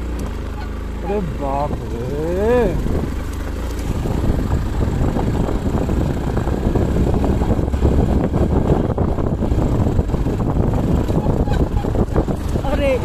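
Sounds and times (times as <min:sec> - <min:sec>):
motorcycle engine under load: 0:00.0 - 0:13.0
wind buffeting microphone: 0:00.0 - 0:13.0.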